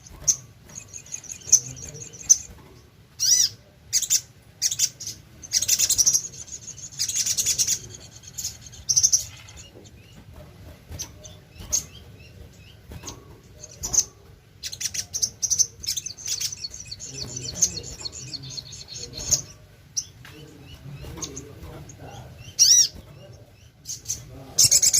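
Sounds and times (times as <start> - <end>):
songbird chirping and trilling: 0.0 - 24.9.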